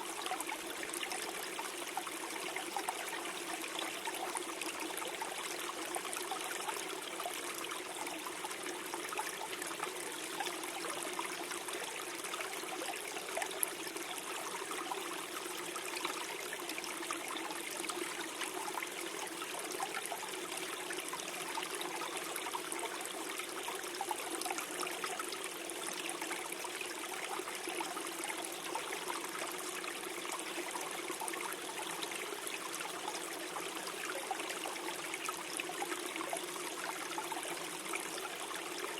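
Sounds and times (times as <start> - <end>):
stream gurgling over stones: 0.0 - 38.9.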